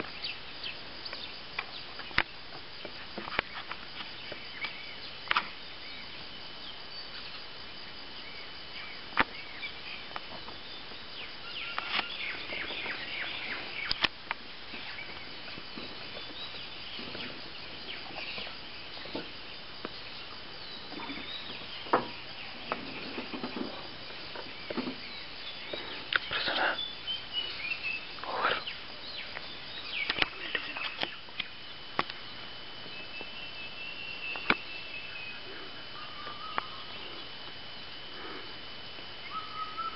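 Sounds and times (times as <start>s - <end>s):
bird calls: 0.0s - 7.5s, 8.2s - 14.1s, 14.7s - 37.5s, 39.2s - 39.9s
high insect tone: 0.0s - 39.9s.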